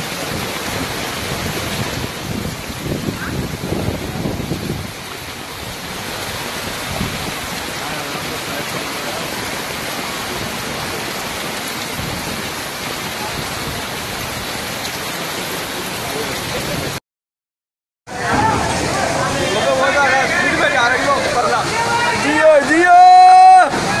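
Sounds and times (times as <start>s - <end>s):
floodwater running: 0.0s - 17.0s, 18.1s - 24.0s
heavy rain on a flooded street: 0.0s - 17.0s, 18.1s - 24.0s.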